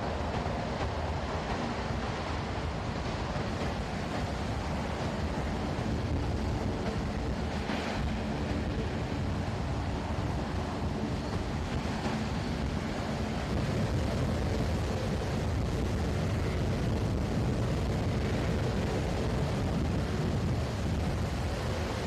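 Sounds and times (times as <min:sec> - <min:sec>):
hovercraft rushing noise: 0:00.0 - 0:22.0.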